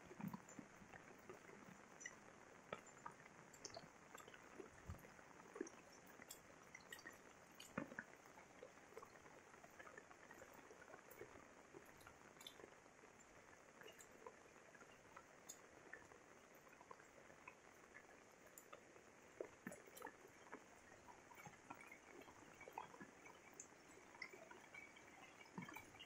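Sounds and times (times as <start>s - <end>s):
light rain hiss: 0.0s - 26.0s
rain drips and taps: 0.0s - 26.0s.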